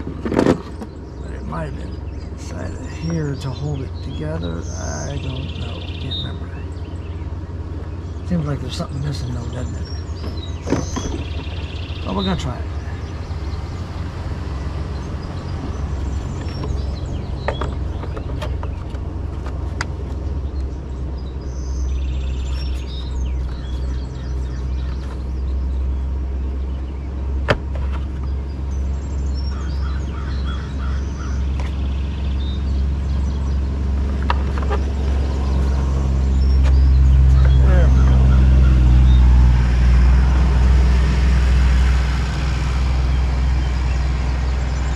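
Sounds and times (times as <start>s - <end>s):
birds chirping: 0.0s - 44.9s
steady low rumble: 0.0s - 44.9s.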